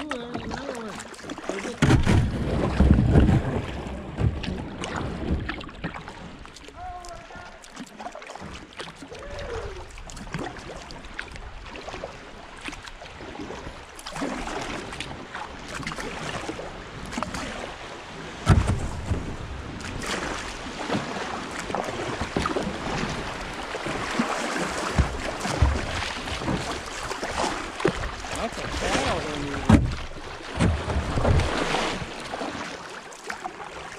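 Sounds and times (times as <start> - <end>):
paddle strokes clicking and dripping: 0.0 - 33.9
water rushing and splashing: 0.0 - 33.9.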